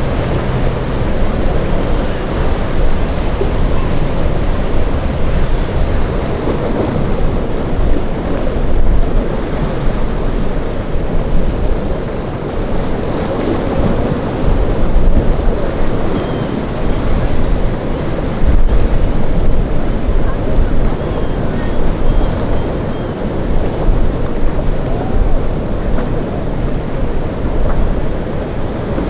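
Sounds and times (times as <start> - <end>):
rough surf breaking: 0.0 - 29.0
wind buffeting microphone: 0.0 - 29.0.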